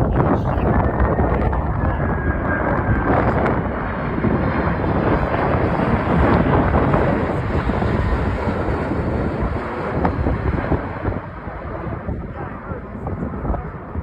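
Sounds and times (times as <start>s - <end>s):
jet engine rumble: 0.0s - 14.0s
wind buffeting microphone: 0.0s - 14.0s.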